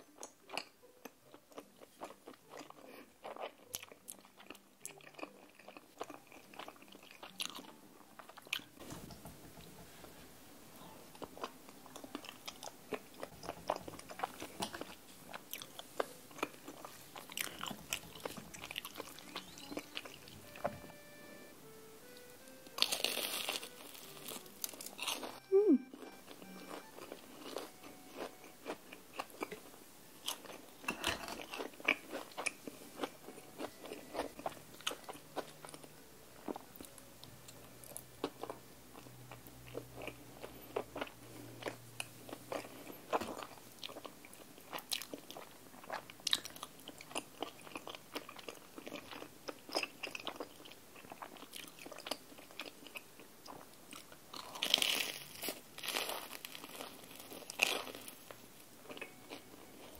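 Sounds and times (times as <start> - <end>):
chewing and crunching food: 0.0 - 8.9, 10.8 - 20.5, 22.7 - 59.9.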